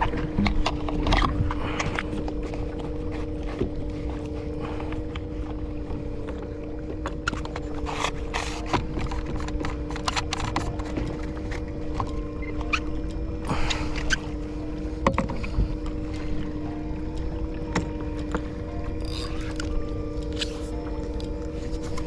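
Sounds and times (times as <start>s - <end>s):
fishing gear clicks and knocks: 0.0s - 22.0s
steady two-note hum: 0.0s - 22.0s
water lapping at a kayak: 0.0s - 22.0s.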